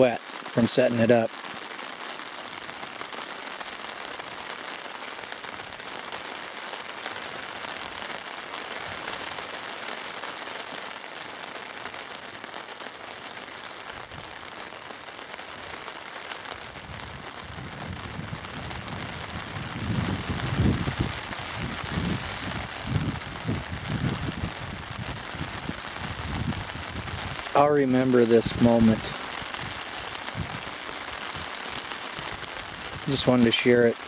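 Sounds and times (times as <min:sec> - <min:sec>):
rain pattering on a tarp: 0:00.0 - 0:34.0.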